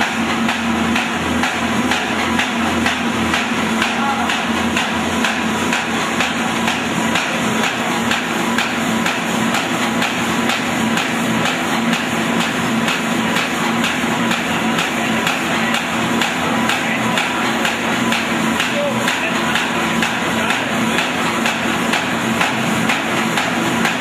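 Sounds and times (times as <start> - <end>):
machine humming: 0.0 - 24.0
machine mechanical knocking: 0.0 - 24.0.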